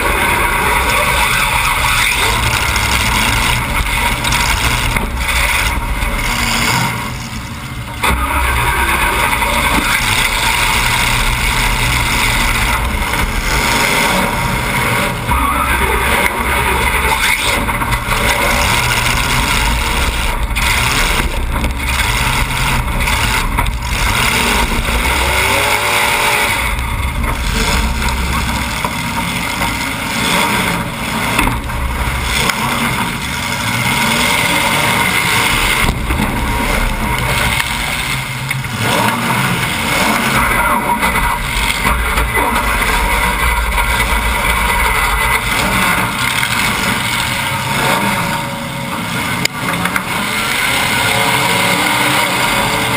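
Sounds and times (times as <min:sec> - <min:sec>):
car engine running hard: 0:00.0 - 0:52.9.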